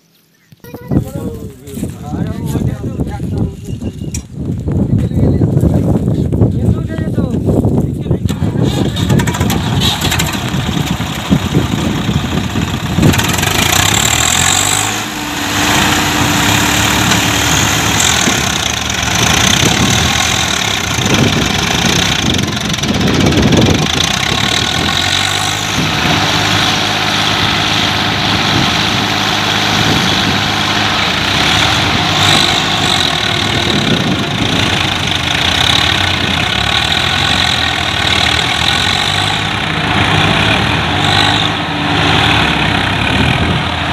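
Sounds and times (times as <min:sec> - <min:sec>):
diesel tractor engine straining: 0:00.7 - 0:43.9.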